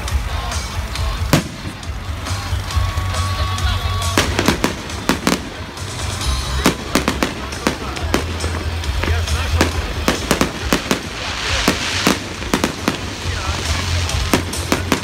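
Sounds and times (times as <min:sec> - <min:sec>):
steady low rumble: 0:00.0 - 0:15.0
fireworks bangs: 0:01.2 - 0:15.0.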